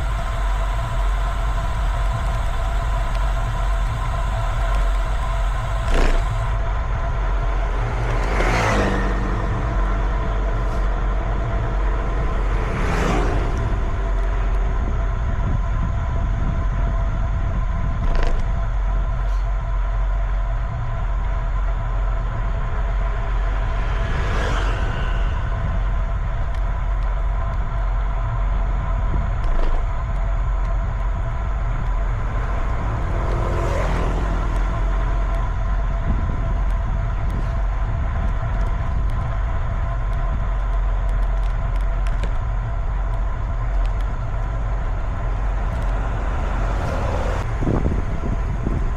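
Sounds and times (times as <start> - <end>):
vehicles rushing past: 0.0 - 17.2, 18.9 - 48.9
traffic drone: 0.0 - 48.9.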